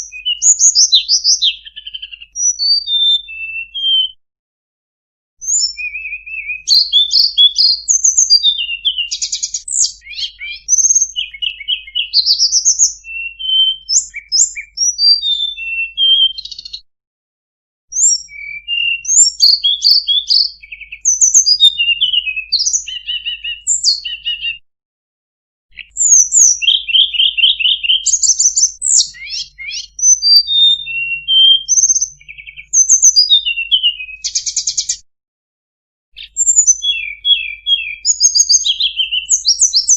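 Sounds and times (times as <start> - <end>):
bird singing chirps and trills: 0.0 - 4.2, 5.4 - 16.9, 17.9 - 24.6, 25.7 - 35.0, 36.2 - 39.9.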